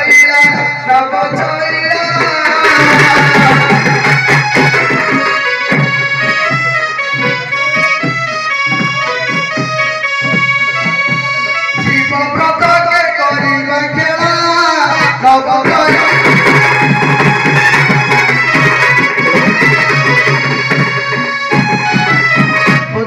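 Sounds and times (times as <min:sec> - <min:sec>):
quick hand-drum beats: 0:00.0 - 0:23.0.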